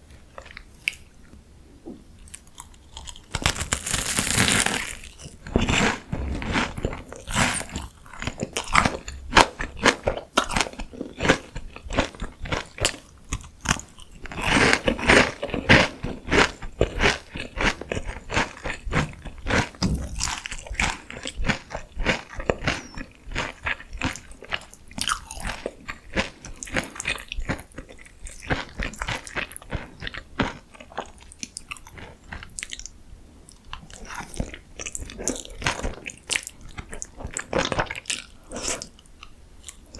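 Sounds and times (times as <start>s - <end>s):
chewing crunchy food: 0.1s - 1.4s, 2.2s - 39.9s.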